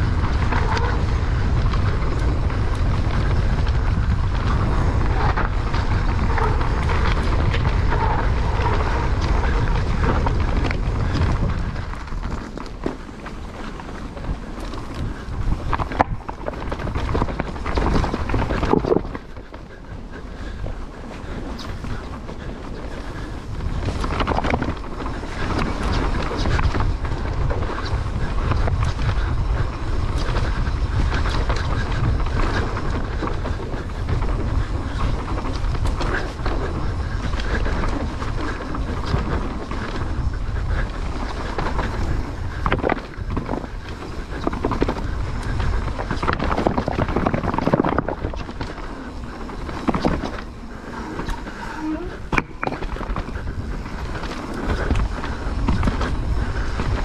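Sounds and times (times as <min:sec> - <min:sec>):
bike knocks and rattles: 0:00.0 - 0:57.0
bike tyres on dirt: 0:00.0 - 0:57.0
wind buffeting microphone: 0:00.0 - 0:57.0.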